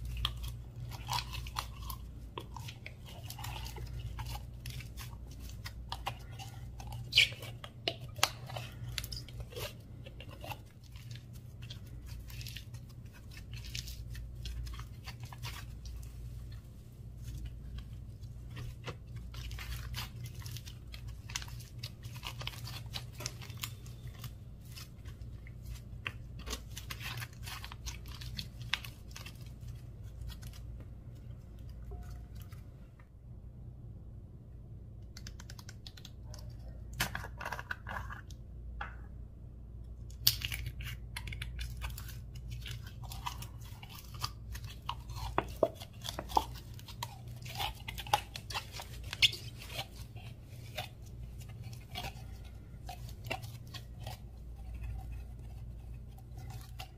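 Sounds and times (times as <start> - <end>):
slime crunching and crackling: 0.0 - 32.7, 40.1 - 56.9
steady low hum: 0.0 - 56.9.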